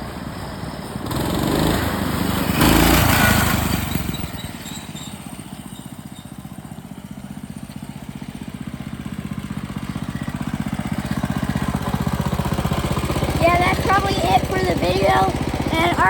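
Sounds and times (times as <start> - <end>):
mini bike engine revving and idling: 0.0 - 16.0.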